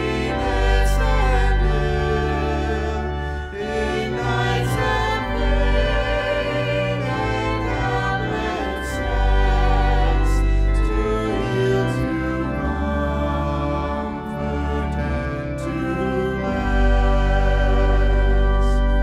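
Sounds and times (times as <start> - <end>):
low sustained instrumental chords: 0.0 - 19.0
vocal ensemble singing a hymn: 0.0 - 19.0.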